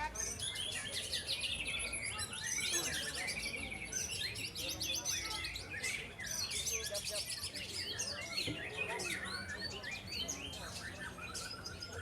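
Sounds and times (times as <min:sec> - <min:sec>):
songbirds singing in chorus: 0:00.0 - 0:12.0.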